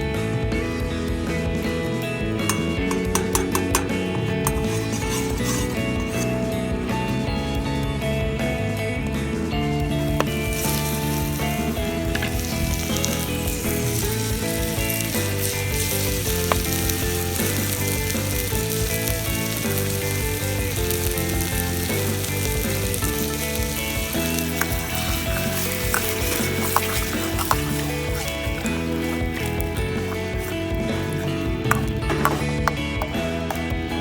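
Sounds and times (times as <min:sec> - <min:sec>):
melodic background music: 0:00.0 - 0:34.0
food sizzling in a pan: 0:02.5 - 0:06.6, 0:09.9 - 0:33.7.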